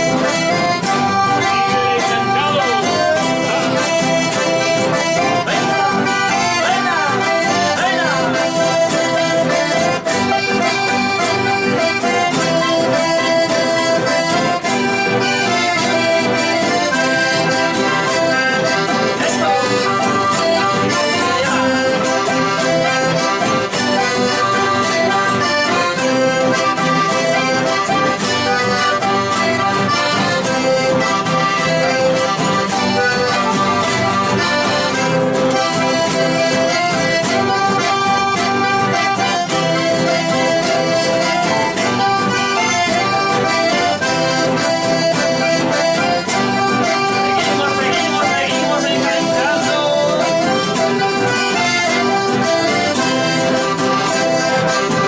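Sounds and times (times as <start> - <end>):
accordion folk music: 0.0 - 55.0.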